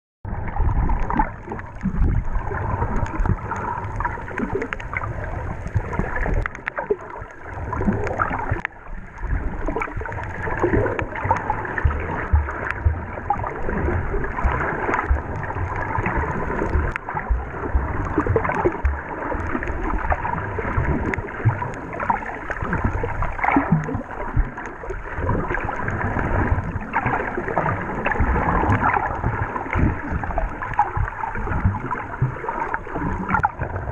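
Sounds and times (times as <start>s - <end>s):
water sloshing underwater: 0.3s - 33.9s.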